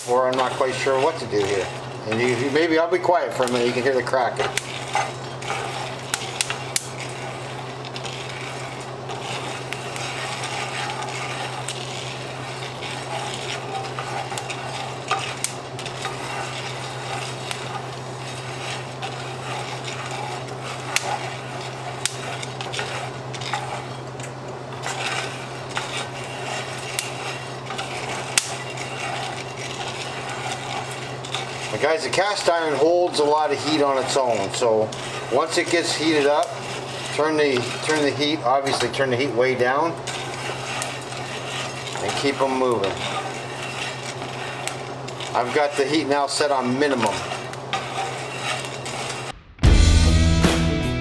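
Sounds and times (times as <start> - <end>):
coffee beans cracking: 0.0 - 49.3
wooden spoon scraping a skillet: 0.0 - 49.3
fan running: 0.0 - 51.0.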